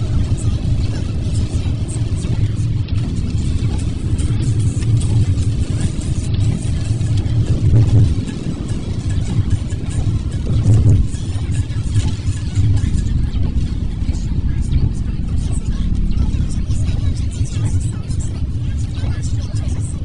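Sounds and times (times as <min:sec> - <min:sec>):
car cabin road rumble: 0:00.0 - 0:20.0
music playing: 0:00.0 - 0:20.0.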